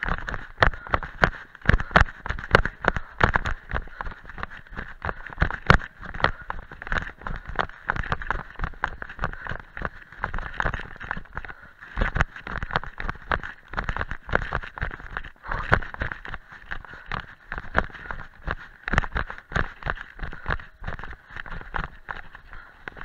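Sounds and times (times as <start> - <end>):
running footsteps on dirt path: 0.0 - 23.0.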